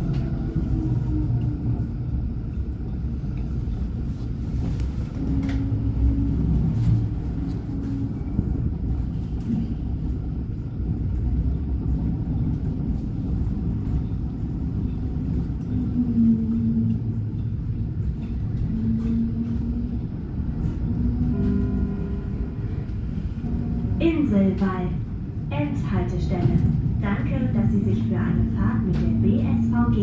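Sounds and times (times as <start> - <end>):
tram rumbling on rails: 0.0 - 30.0.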